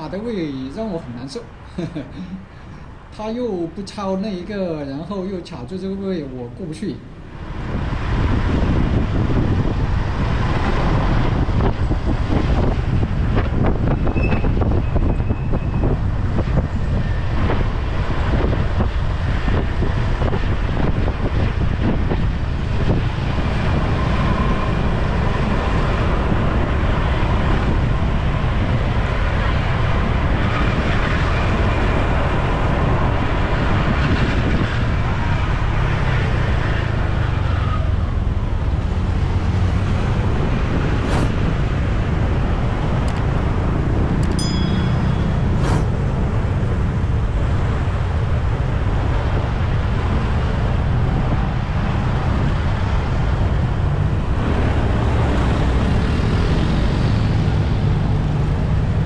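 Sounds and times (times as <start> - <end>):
road and traffic noise: 0.0 - 59.0
wind rushing over microphone: 0.0 - 59.0.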